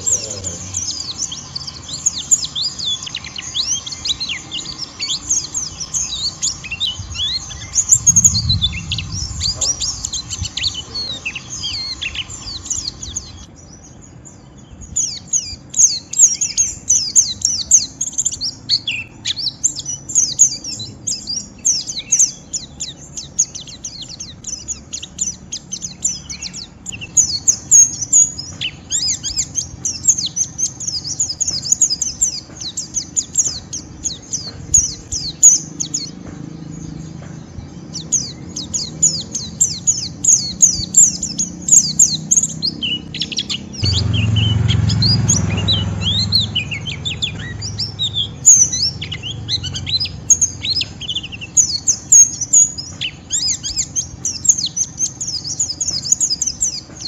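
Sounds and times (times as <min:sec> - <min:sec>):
bird twittering high chirps: 0:00.0 - 0:57.0.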